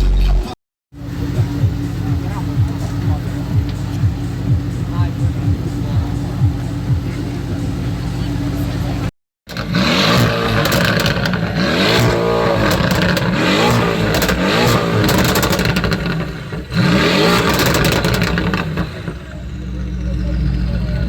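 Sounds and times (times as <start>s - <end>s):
car engine revving: 0.0s - 21.0s
exhaust crackles: 0.0s - 21.0s.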